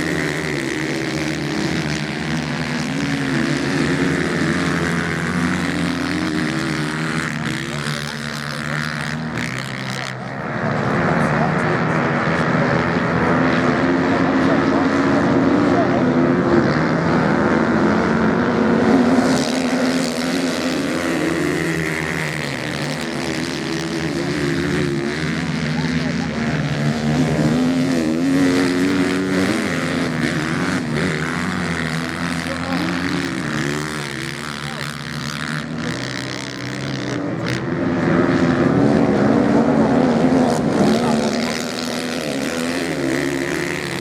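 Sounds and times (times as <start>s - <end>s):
motorcycle engines racing: 0.0s - 44.0s.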